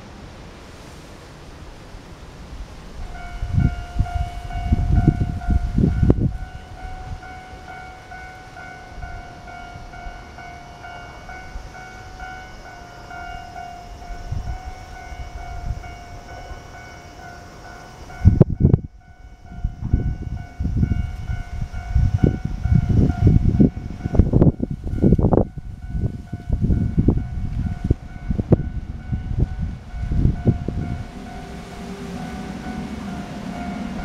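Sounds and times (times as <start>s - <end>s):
low gusty rumbles: 2.0s - 17.4s, 18.0s - 34.0s
level crossing warning bell ringing: 3.0s - 34.0s.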